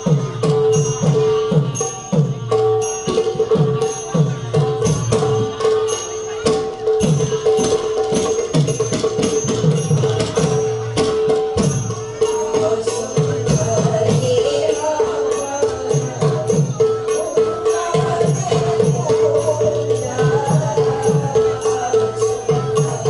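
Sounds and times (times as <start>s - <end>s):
cymbals jingling: 0.0s - 23.0s.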